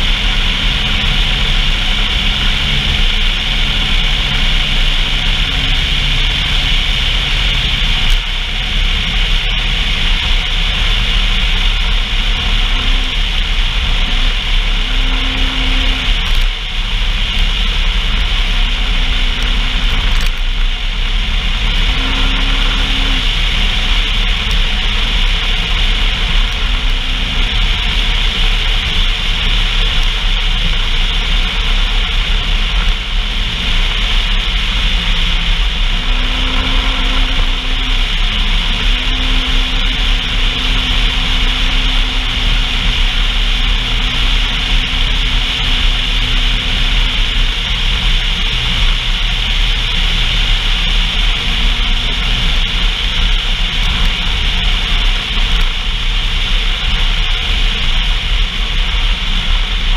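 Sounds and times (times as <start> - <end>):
faint engine tone: 0.0 - 59.9
vehicle engine drone: 0.0 - 59.9
wind and road noise: 0.0 - 59.9.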